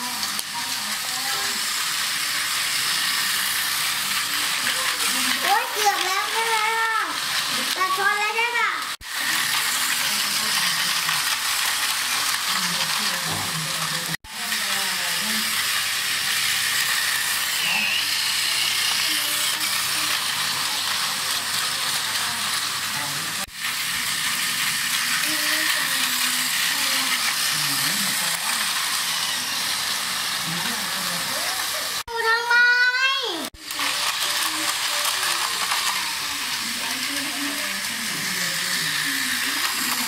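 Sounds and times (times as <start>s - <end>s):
toy trains whirring rattle: 0.0s - 40.0s.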